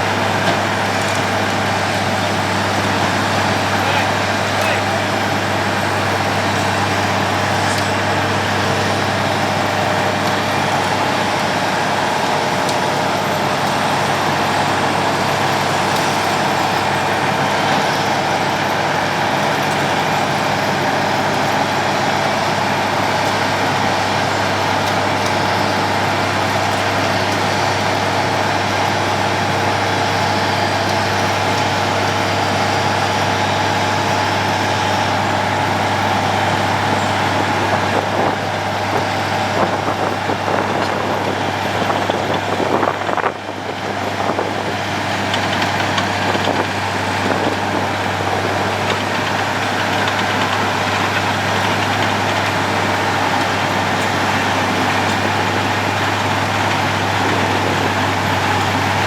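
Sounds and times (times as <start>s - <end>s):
road planer milling: 0.0s - 59.0s.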